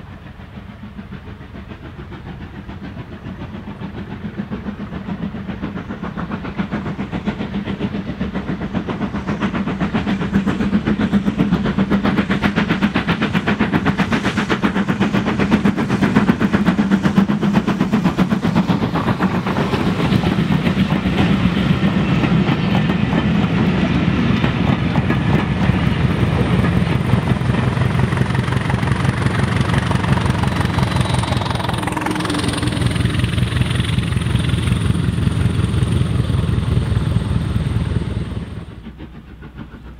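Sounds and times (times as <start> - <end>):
steam locomotive passing: 0.0 - 39.9
train coaches rolling by: 0.0 - 39.9.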